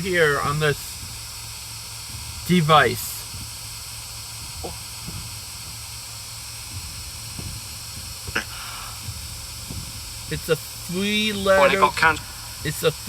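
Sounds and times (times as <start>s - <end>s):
rain hissing: 0.0s - 13.0s
faint taps: 0.5s - 11.6s.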